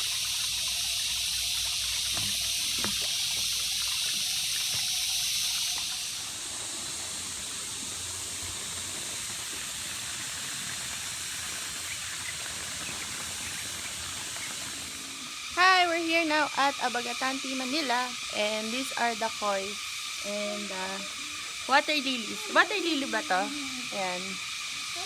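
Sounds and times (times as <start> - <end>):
water trickling into a pond: 0.0 - 25.0.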